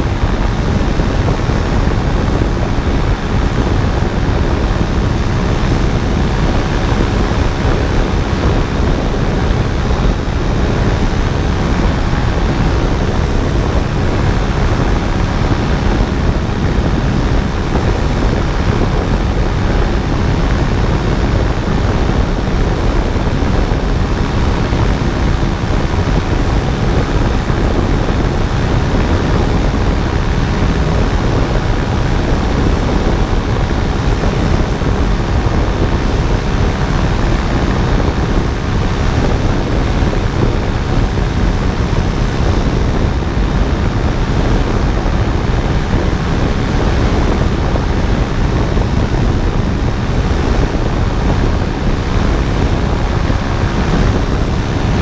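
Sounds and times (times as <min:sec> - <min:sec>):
paramotor engine drone: 0:00.0 - 0:55.0
wind rush on microphone: 0:00.0 - 0:55.0.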